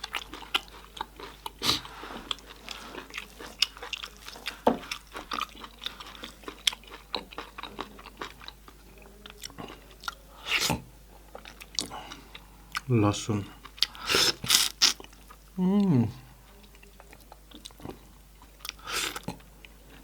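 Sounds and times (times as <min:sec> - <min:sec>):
close chewing with mouth clicks: 0:00.0 - 0:12.9, 0:13.6 - 0:15.4, 0:16.6 - 0:20.0.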